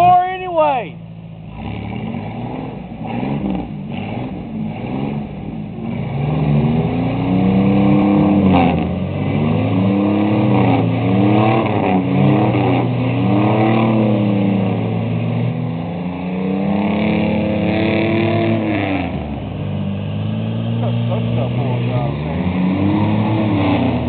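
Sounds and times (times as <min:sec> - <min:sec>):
pickup truck engines revving: 0:00.0 - 0:24.0.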